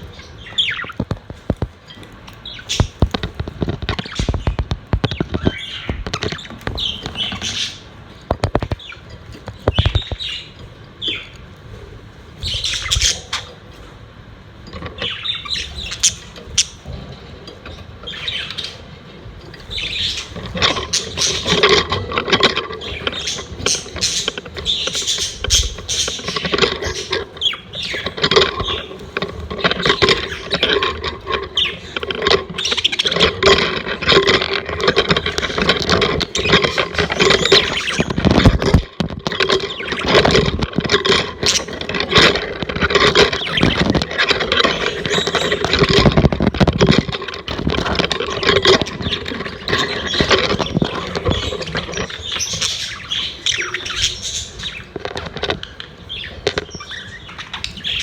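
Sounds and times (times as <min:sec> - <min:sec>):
budgerigars chattering: 0:00.0 - 0:11.4, 0:12.4 - 0:13.8, 0:14.8 - 0:17.2, 0:18.0 - 0:18.9, 0:19.6 - 0:58.0.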